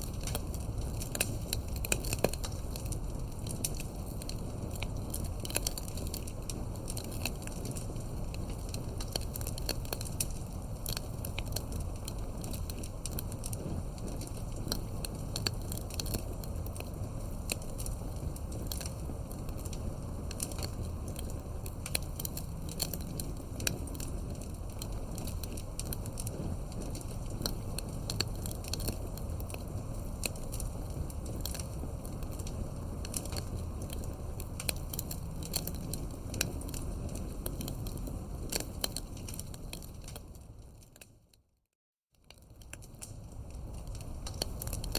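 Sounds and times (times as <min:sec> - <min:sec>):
low rumble of flame: 0:00.0 - 0:41.5, 0:42.2 - 0:44.9
wood popping and snapping: 0:00.1 - 0:40.2.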